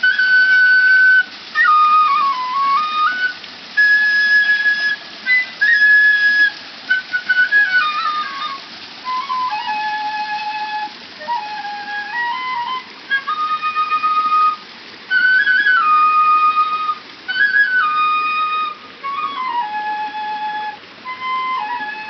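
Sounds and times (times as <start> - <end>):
bamboo flute melody: 0.0 - 22.0.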